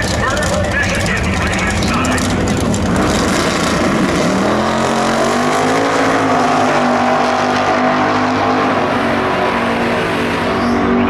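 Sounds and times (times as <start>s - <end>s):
drag racing car engine revving: 0.0s - 11.0s.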